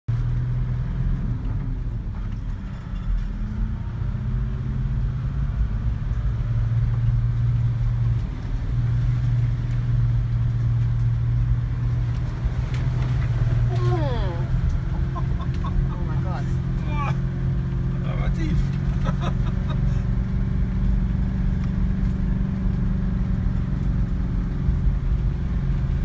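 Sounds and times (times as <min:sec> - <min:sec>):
vehicle engine low drone: 0:00.1 - 0:26.0
rain pattering on vehicle: 0:04.5 - 0:26.0.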